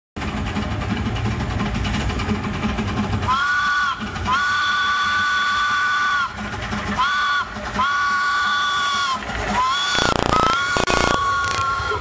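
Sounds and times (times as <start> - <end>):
locomotive rumbling: 0.2 - 12.0.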